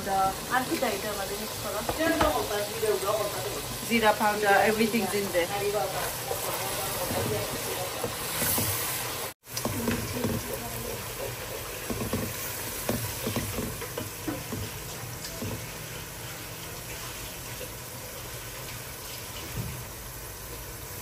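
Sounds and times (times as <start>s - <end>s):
curry sizzling in a pot: 0.0s - 21.0s.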